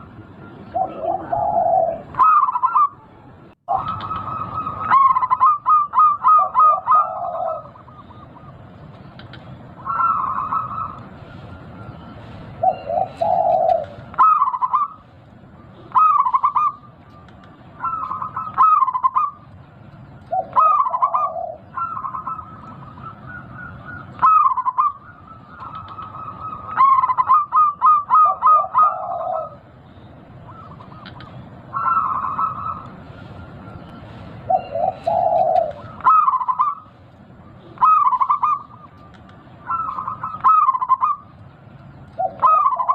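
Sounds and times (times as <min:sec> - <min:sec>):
dove cooing: 0:00.0 - 0:19.5, 0:20.2 - 0:41.4, 0:42.1 - 0:42.9
steady low background noise: 0:00.0 - 0:42.9.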